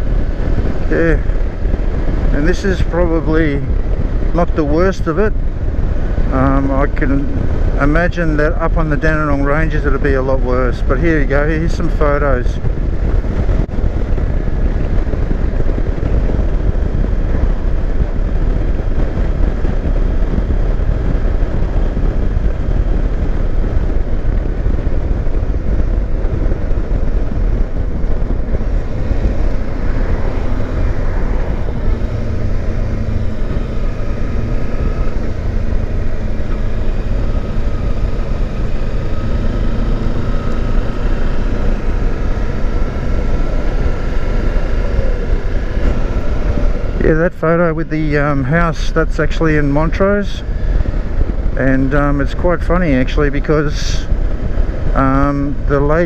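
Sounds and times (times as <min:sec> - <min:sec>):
motorcycle engine hum: 0:00.0 - 0:56.0
wind rush over microphone: 0:00.0 - 0:56.0.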